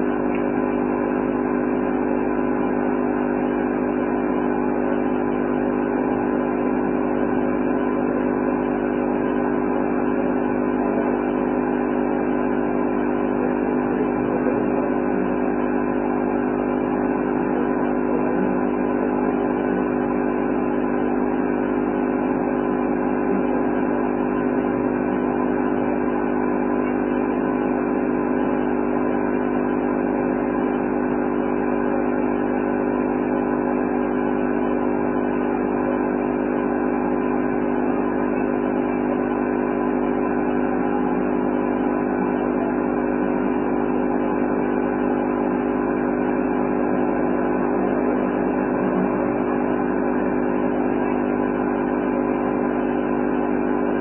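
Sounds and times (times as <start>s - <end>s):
steady hum of held tones: 0.0s - 54.0s.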